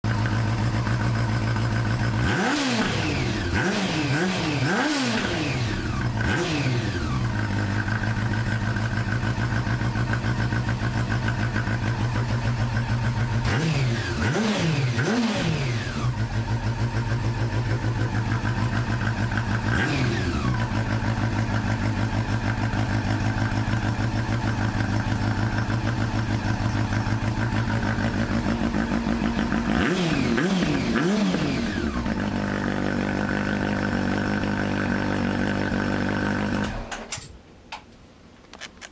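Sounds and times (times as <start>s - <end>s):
engine exhaust idling and revving: 0.0s - 36.9s.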